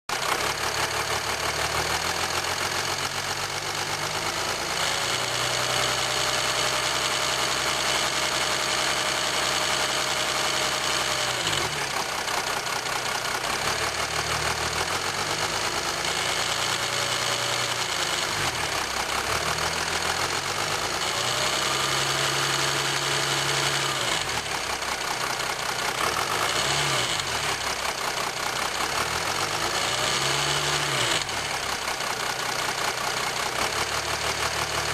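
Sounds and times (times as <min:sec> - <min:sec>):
diesel engine running: 0:00.1 - 0:34.9
engine rattle: 0:00.1 - 0:34.9.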